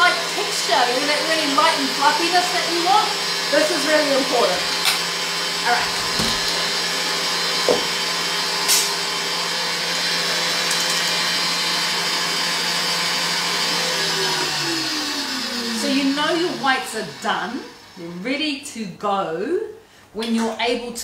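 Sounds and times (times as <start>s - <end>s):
stand mixer whisking: 0.0s - 18.0s.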